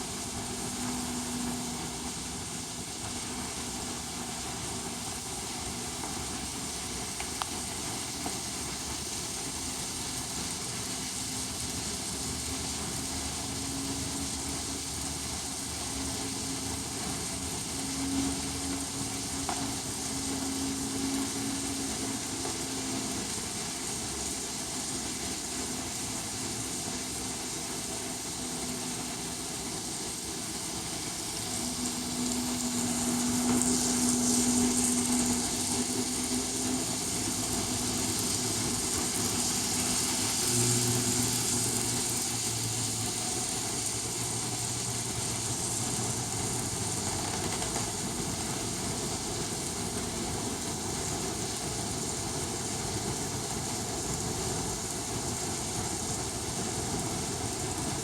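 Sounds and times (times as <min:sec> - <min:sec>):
model train motor hum: 0:00.0 - 0:58.0
steady hiss: 0:00.0 - 0:58.0.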